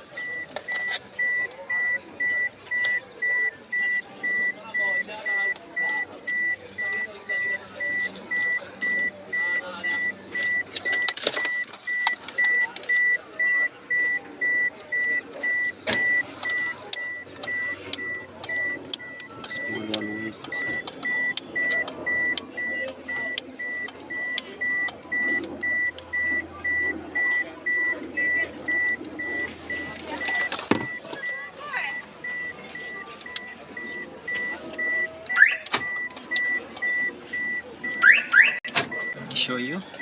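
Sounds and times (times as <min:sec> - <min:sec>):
high-pitched electronic beeps: 0:00.1 - 0:40.0.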